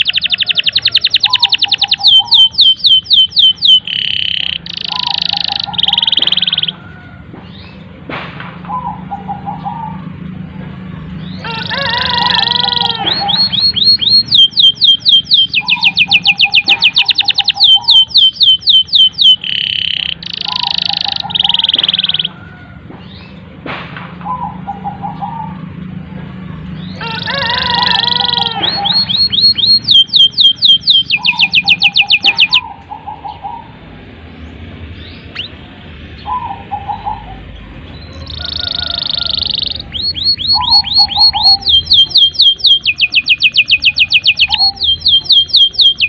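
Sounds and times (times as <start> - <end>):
canary singing: 0.0 - 8.0, 8.7 - 23.5, 24.2 - 46.0.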